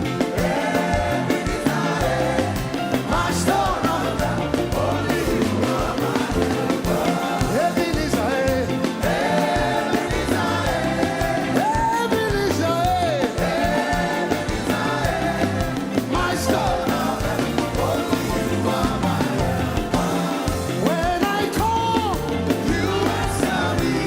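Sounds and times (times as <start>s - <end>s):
band with driving beat and bass: 0.0s - 24.0s
voices singing: 0.0s - 24.0s.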